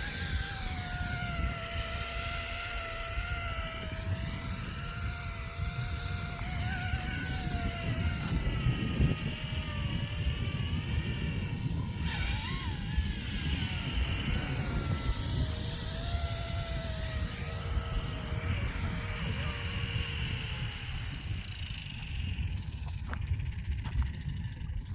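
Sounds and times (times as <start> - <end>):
rc helicopter rotor whine: 0.0 - 24.9
wind rumble on microphone: 0.0 - 24.9.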